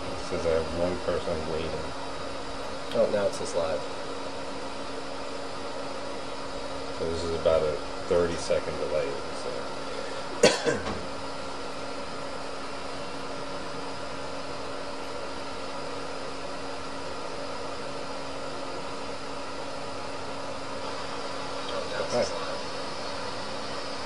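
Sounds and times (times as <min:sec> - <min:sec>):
fan hum: 0:00.0 - 0:24.0.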